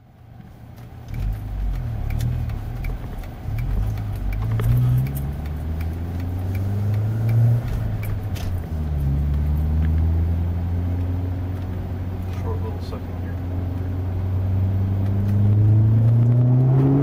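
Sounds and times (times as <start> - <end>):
road noise: 0.0 - 17.0
car engine accelerating: 0.7 - 17.0.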